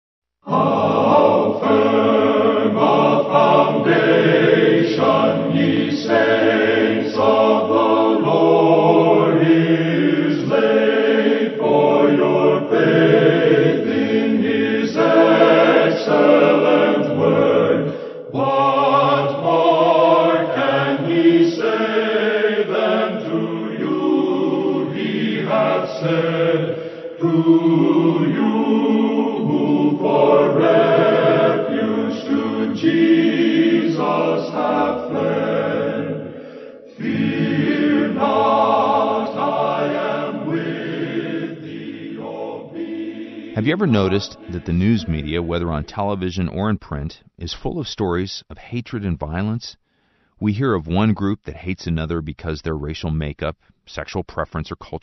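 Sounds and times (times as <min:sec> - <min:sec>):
choir singing: 0:00.4 - 0:45.5.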